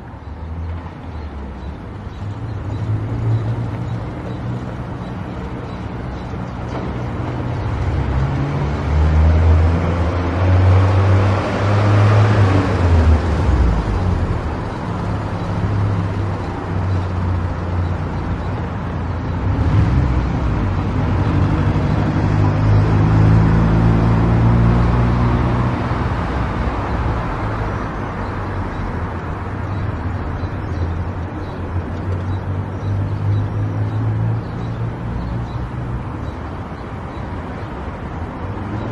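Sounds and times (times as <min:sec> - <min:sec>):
tyre road noise: 0:00.0 - 0:38.9.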